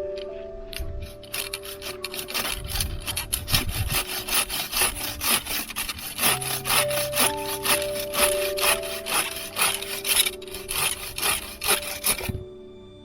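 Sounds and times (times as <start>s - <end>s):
soft background music: 0.0s - 13.0s
hand saw cutting wood: 1.2s - 12.4s.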